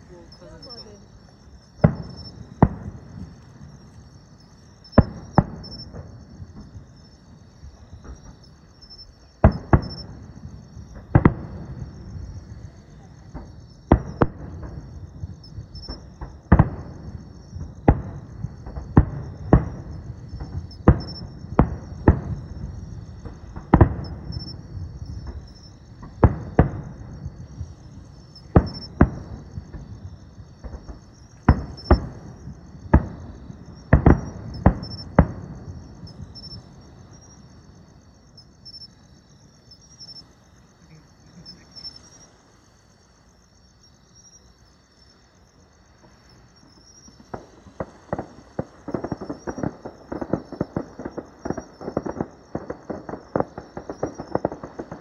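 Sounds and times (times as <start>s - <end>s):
fireworks bursting: 0.0s - 42.8s, 45.9s - 55.0s
insects chirping: 0.0s - 55.0s.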